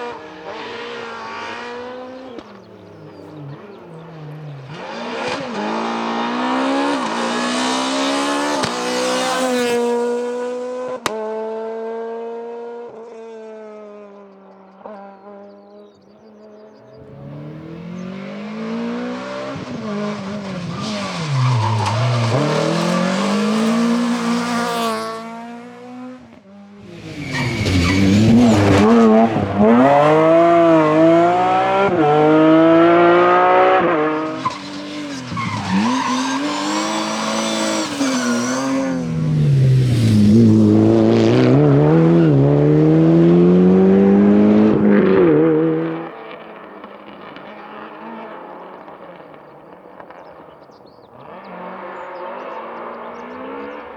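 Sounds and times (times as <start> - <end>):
rally cars revving past: 0.0 - 15.6, 16.8 - 53.9.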